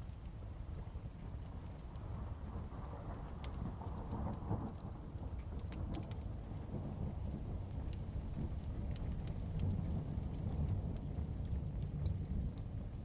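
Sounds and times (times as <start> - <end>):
steady rain: 0.0 - 13.0
wood fire crackling: 0.0 - 13.0
rumble of thunder: 1.9 - 13.0.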